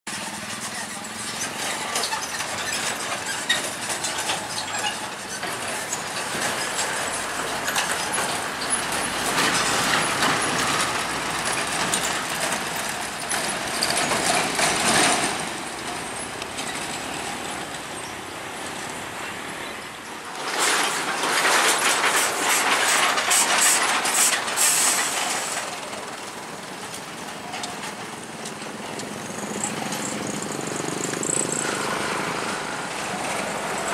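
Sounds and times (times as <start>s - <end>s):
road traffic: 0.1s - 33.9s
truck diesel engines running: 0.1s - 33.9s
tyres rolling across rails: 0.1s - 33.9s.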